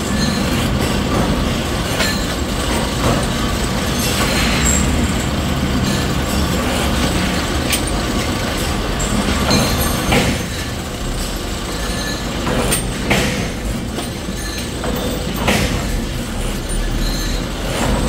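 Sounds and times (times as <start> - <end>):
metal clinks: 0.0 - 18.0.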